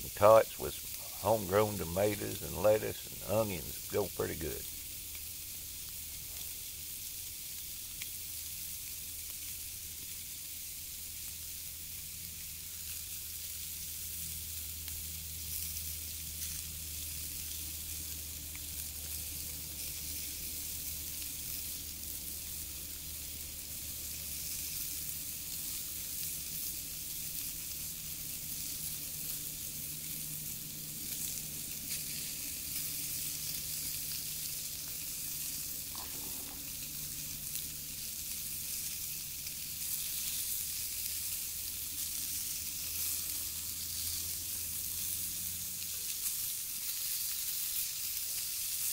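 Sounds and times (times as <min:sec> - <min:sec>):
burger patties sizzling on griddle: 0:00.0 - 0:48.9.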